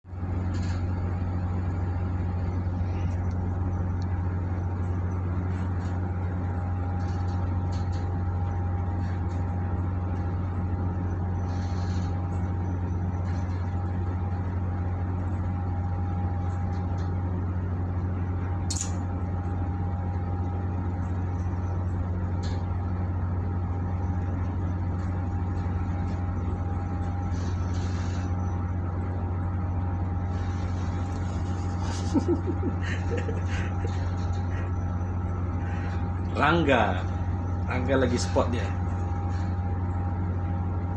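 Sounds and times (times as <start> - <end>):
thin steady whine: 0.0 - 40.9.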